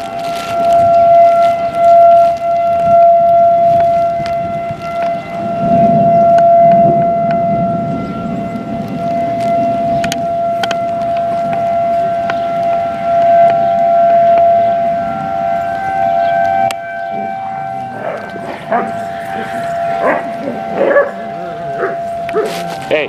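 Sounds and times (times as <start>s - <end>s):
tornado warning siren steady tone: 0.0s - 23.0s.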